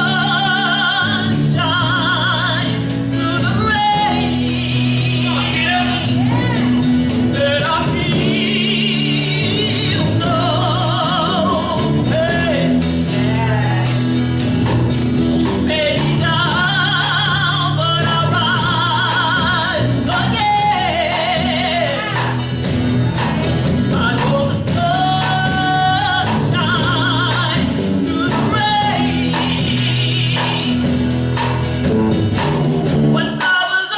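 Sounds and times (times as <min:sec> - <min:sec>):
band with bass and drums: 0:00.0 - 0:33.9
gospel singing voices: 0:00.0 - 0:33.9.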